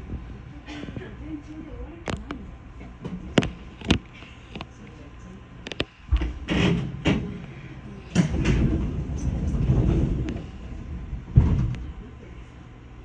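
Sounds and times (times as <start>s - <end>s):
train sliding rumble: 0.0s - 4.7s, 6.0s - 13.0s.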